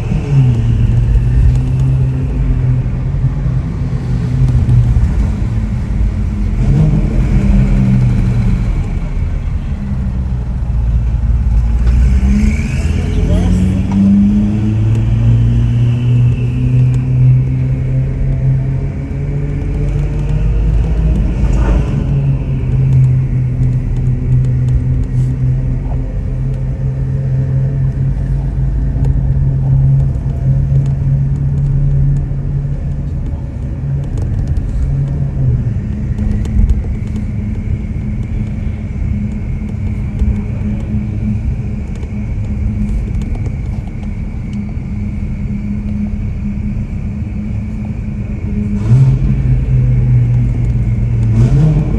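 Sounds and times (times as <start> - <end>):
car engine droning: 0.0 - 51.9.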